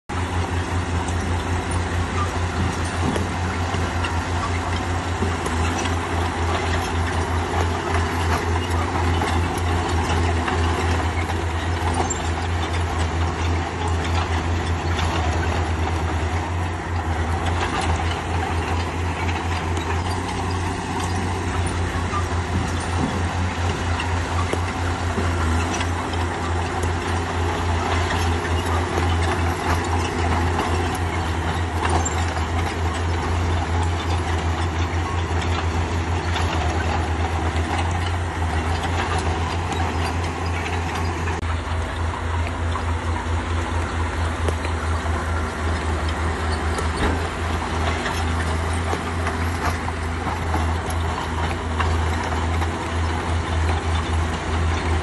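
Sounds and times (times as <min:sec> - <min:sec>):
bulldozer diesel engine: 0:00.0 - 0:55.0
short metal clanks: 0:00.4 - 0:55.0.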